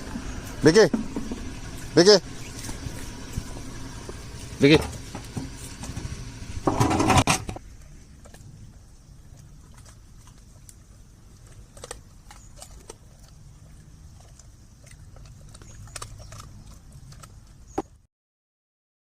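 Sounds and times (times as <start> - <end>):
low steady hum: 0.0 - 18.0
dog chewing and crunching food: 0.0 - 18.1.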